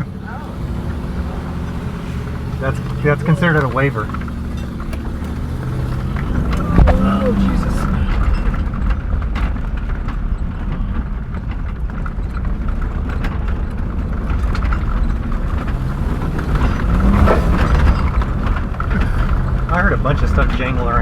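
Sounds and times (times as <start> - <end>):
loose things jangling inside: 0.0 - 21.0
rocks knocking underside: 0.0 - 21.0
vehicle rumbling over rough ground: 0.0 - 21.0.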